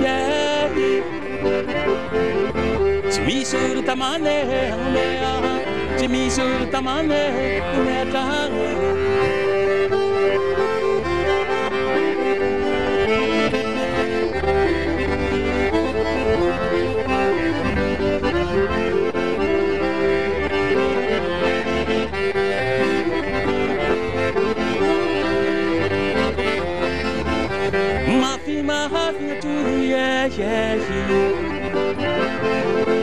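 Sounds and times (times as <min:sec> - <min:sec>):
accordion music: 0:00.0 - 0:33.0.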